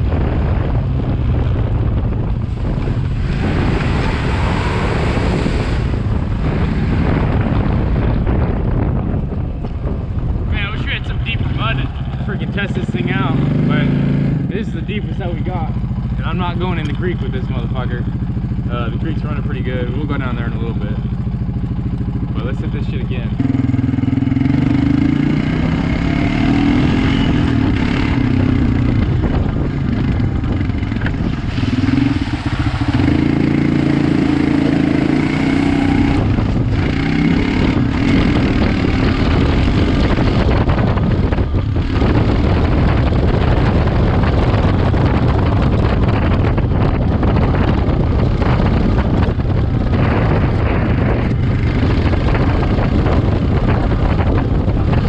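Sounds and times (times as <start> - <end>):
quad bike engine revving: 0.0 - 8.9, 10.6 - 55.0
wind noise on microphone: 0.0 - 55.0.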